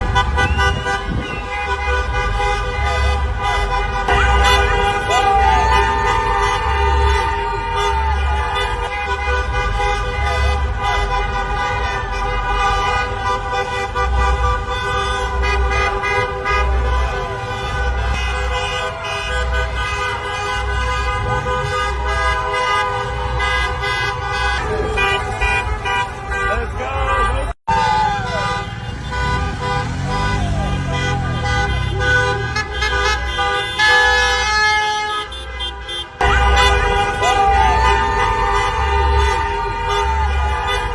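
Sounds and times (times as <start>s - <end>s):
many car horns honking: 0.0s - 40.9s.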